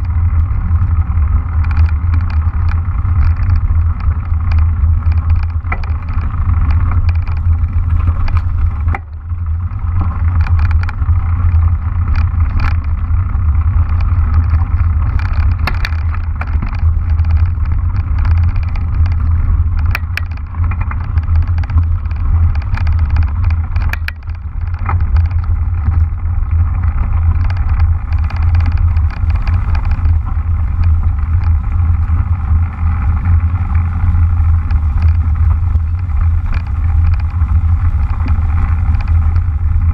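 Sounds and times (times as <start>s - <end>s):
low rumble of wind and bike: 0.0s - 39.9s
tyres clicking over gravel: 0.0s - 39.9s.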